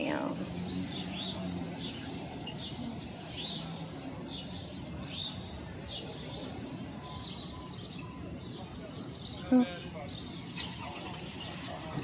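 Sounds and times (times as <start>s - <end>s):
low traffic hum: 0.0s - 12.0s
songbird chirping: 0.0s - 12.0s.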